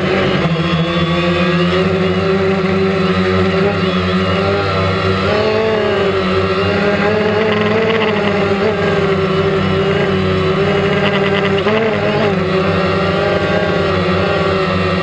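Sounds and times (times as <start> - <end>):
drone rotors buzzing: 0.0 - 15.0.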